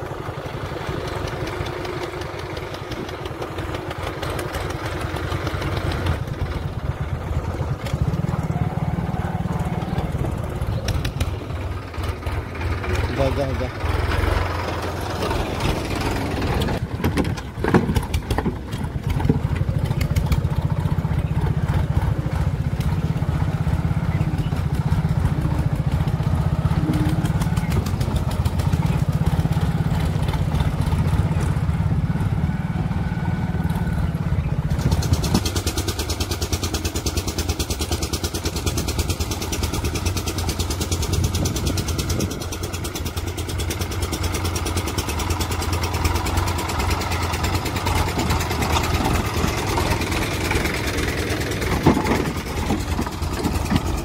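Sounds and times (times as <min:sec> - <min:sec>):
tractor diesel engines running: 0:00.0 - 0:54.0.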